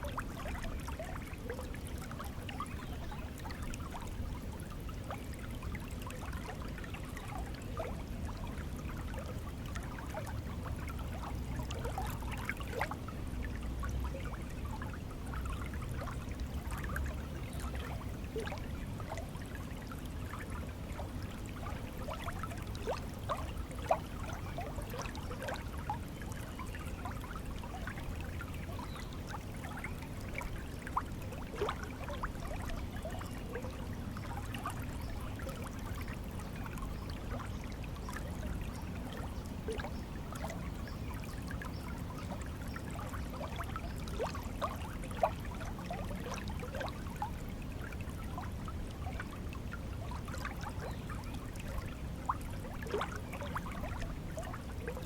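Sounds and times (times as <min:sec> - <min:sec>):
shallow stream trickling: 0:00.0 - 0:55.0
water splashes: 0:05.9 - 0:55.0.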